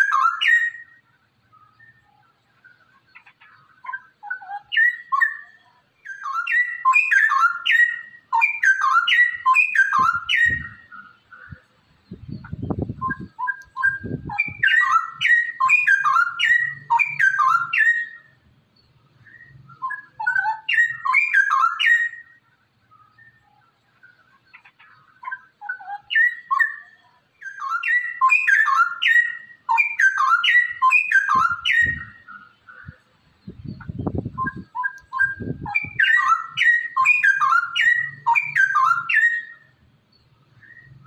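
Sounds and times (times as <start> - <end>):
bird singing bubbling warble: 0.0 - 39.7.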